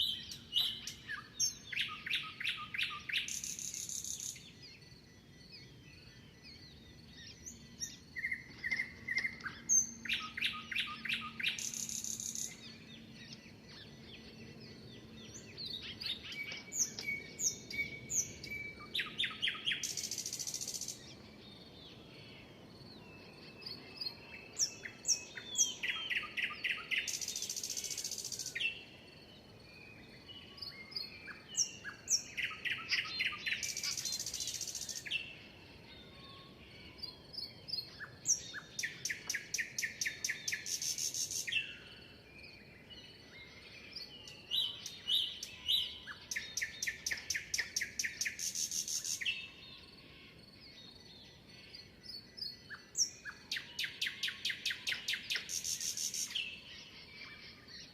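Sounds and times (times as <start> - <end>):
faint bird chirps: 0.0 - 57.9
songbird singing with trill: 0.0 - 57.9.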